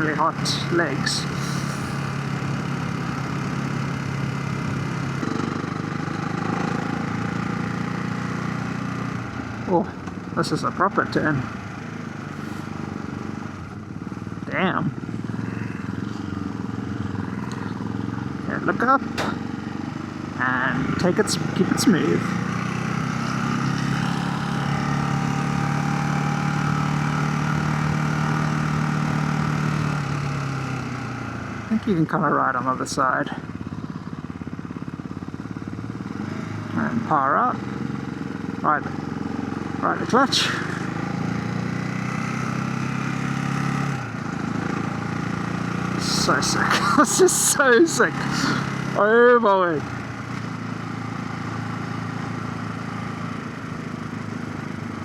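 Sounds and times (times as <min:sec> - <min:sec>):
wind and road noise: 0:00.0 - 0:32.1, 0:33.4 - 0:55.0
motorcycle engine running: 0:00.0 - 0:55.0.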